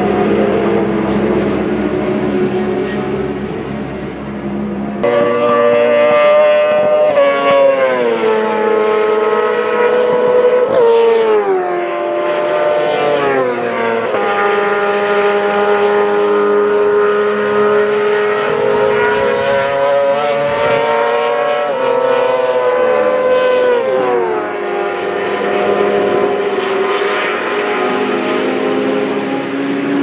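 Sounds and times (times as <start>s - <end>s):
racing engines running hard: 0.0s - 30.0s.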